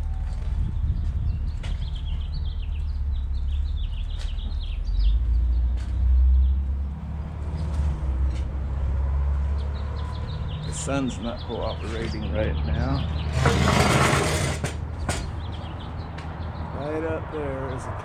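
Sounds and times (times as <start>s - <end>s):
small birds chirping: 0.6s - 13.4s, 14.9s - 18.0s.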